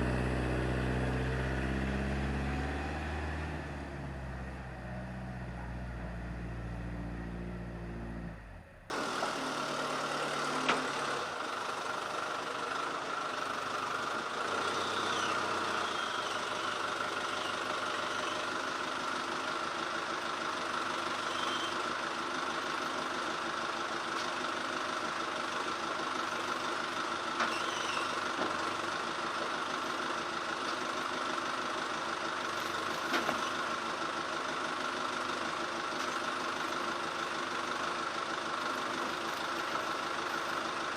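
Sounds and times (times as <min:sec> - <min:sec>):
sawmill engine drone: 0:00.0 - 0:40.9.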